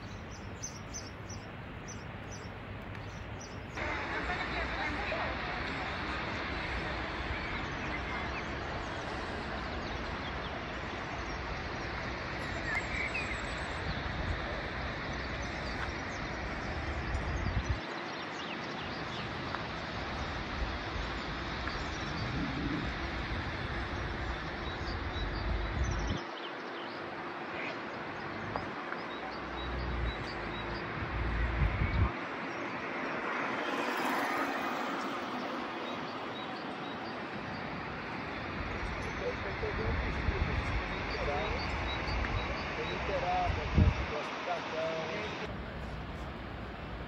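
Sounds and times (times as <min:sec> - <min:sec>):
wind rumbling on microphone: 0:00.0 - 0:18.1, 0:18.7 - 0:26.4, 0:29.5 - 0:47.0
steady rushing hiss: 0:00.0 - 0:26.1, 0:32.2 - 0:47.0.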